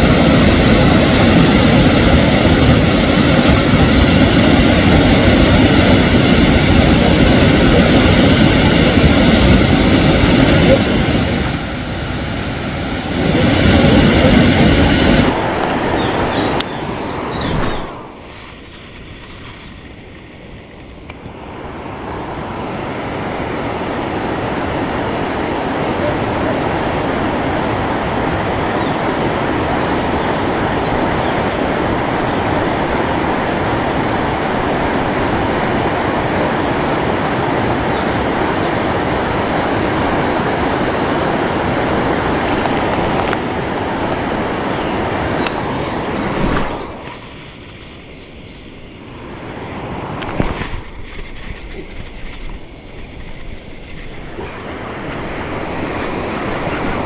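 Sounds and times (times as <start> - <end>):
water rushing through spillway: 0.0 - 47.7, 49.0 - 57.0.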